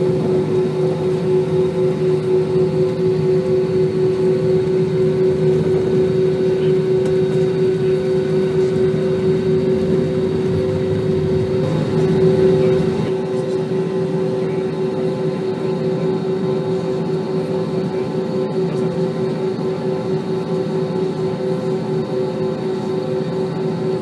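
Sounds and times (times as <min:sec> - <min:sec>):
airplane cabin engine drone: 0:00.0 - 0:24.0.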